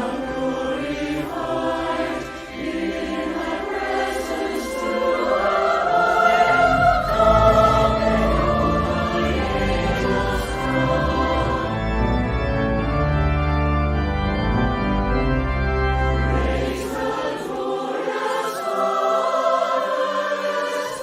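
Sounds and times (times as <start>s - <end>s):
choir singing a hymn: 0.0s - 21.0s
organ playing: 0.0s - 21.0s.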